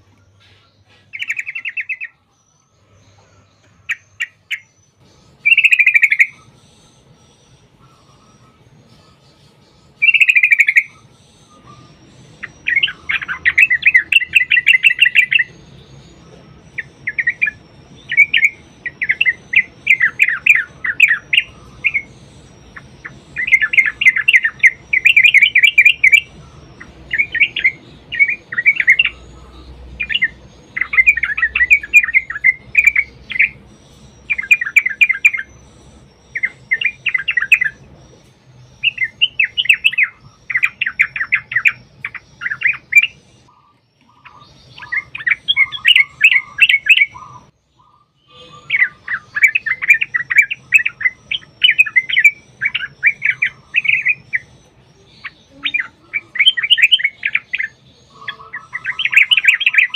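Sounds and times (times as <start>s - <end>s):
bird singing rolling song: 0.0s - 59.9s.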